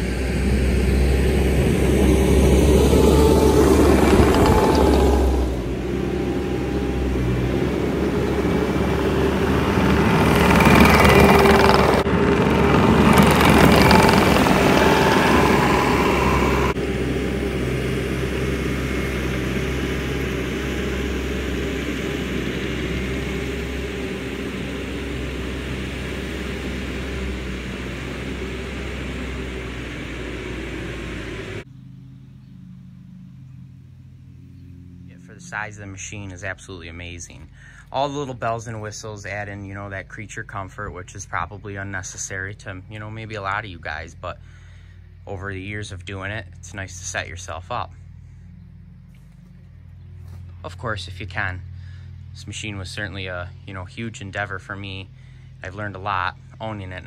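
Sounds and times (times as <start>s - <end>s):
diesel loader engine running: 0.0s - 57.0s.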